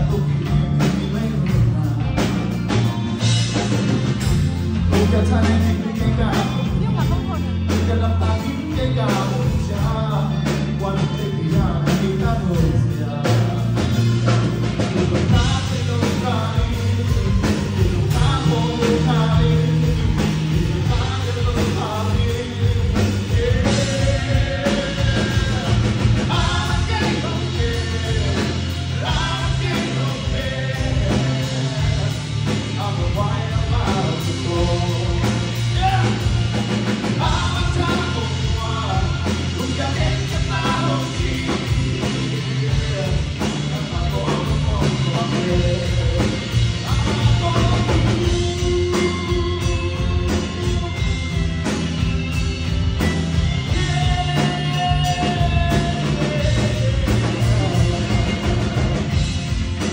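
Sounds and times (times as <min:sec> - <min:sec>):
man singing into microphone: 0:00.0 - 0:04.0, 0:04.7 - 0:51.5, 0:53.4 - 0:59.9
drum kit: 0:00.0 - 0:59.9
electric bass: 0:00.0 - 0:59.9.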